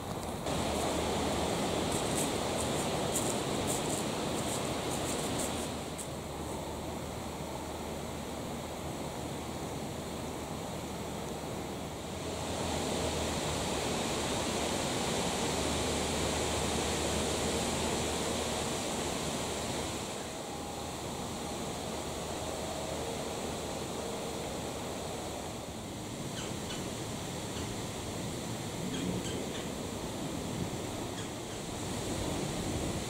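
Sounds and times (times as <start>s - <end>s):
wind-like outdoor hiss: 0.0s - 33.0s.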